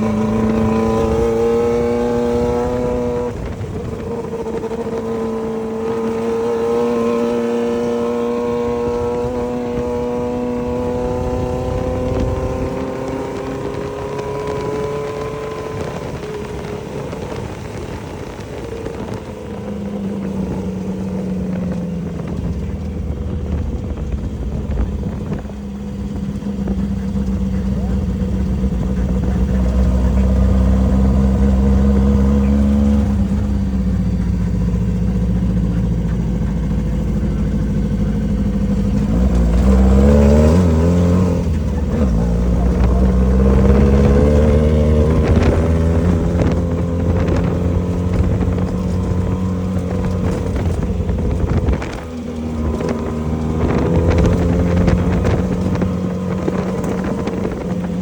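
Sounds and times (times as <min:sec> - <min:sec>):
race vehicle engine revving: 0:00.0 - 0:58.0.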